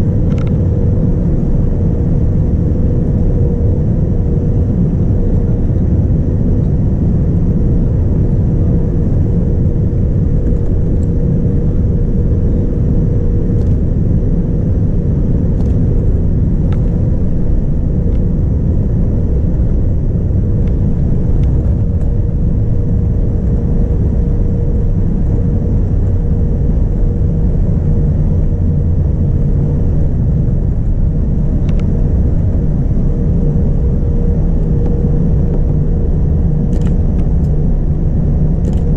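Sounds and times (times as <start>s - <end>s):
airplane cabin engine rumble: 0.0s - 38.9s
constant hum: 0.0s - 38.9s.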